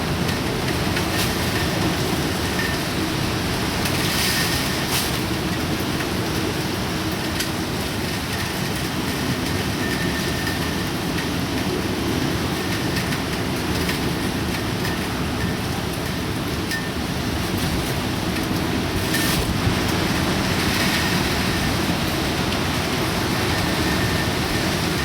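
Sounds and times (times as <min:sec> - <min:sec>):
wind and rain rushing: 0:00.0 - 0:25.0.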